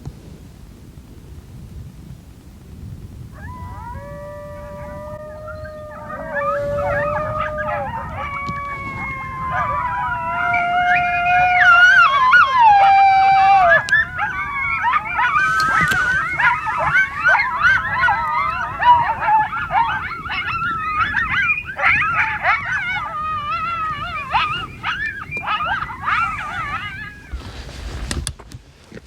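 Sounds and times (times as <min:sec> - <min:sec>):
coyote long howl: 0:03.3 - 0:27.4
coyotes yipping and howling: 0:03.3 - 0:27.7.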